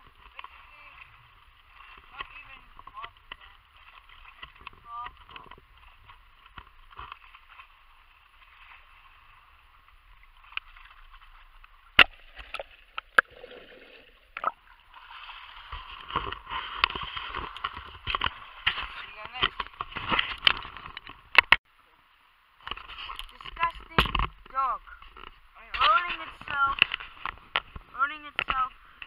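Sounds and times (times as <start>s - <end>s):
water sloshing and lapping: 0.0s - 21.6s, 22.6s - 29.0s.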